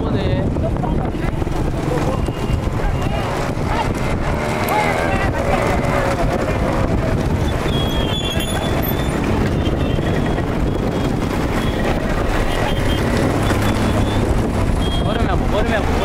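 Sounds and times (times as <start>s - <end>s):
road and wind noise: 0.0s - 16.0s
vehicle rumbling along road: 0.0s - 16.0s.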